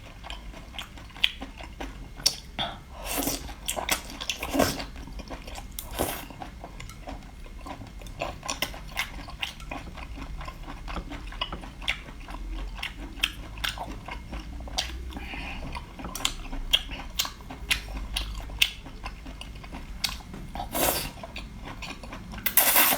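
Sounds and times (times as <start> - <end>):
person chewing crunchy food: 0.0 - 22.9.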